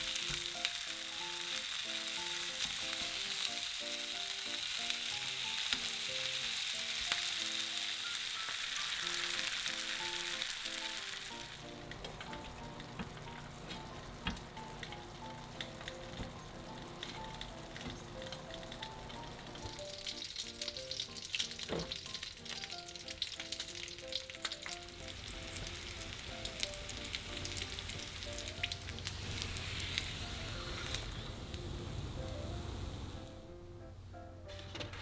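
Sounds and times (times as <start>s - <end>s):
food sizzling in a pan: 0.0s - 33.5s
soft piano music: 0.0s - 35.0s.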